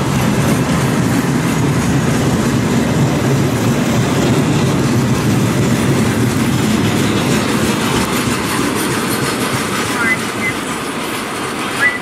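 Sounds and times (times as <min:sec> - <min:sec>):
steel train wheels rolling on rails: 0:00.0 - 0:12.0.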